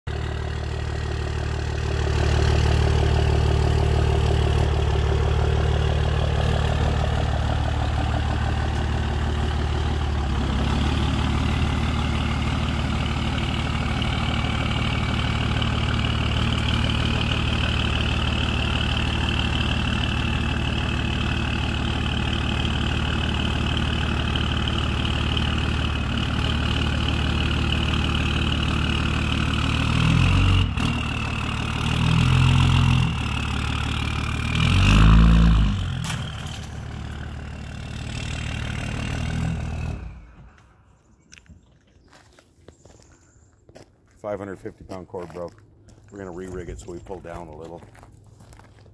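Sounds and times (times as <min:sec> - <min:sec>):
pickup truck engine running: 0:00.1 - 0:41.1.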